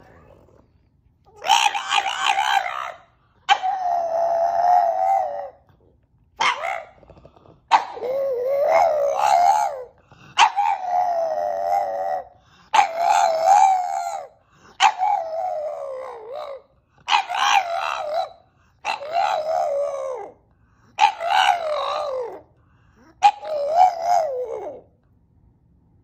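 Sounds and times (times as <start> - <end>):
dog howling: 1.3 - 5.8, 6.4 - 20.4, 21.0 - 22.5, 23.2 - 24.9.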